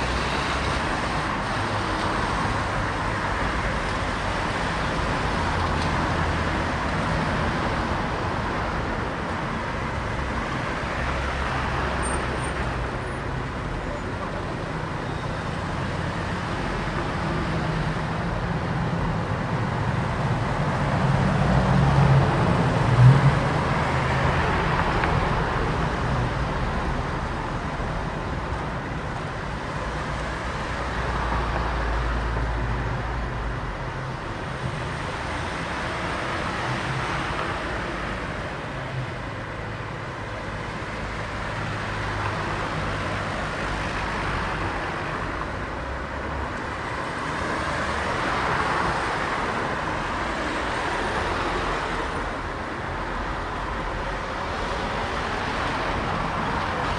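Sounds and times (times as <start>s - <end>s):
cars passing: 0.0s - 56.9s.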